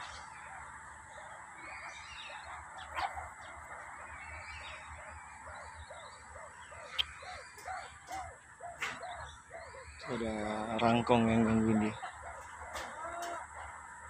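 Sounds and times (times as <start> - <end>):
meerkats chirping and yelping: 0.0 - 14.0.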